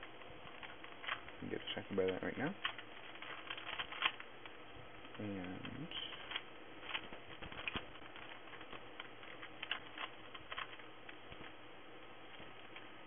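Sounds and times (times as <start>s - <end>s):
puzzle cube plastic clicks: 0.4s - 11.2s.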